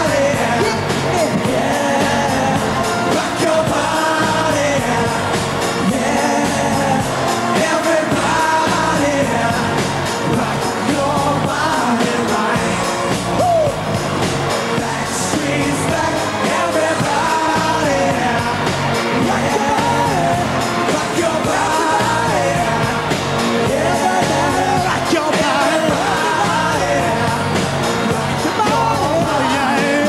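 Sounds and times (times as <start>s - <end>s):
crowd yelling: 0.0s - 30.0s
male voices singing pop music: 0.0s - 30.0s.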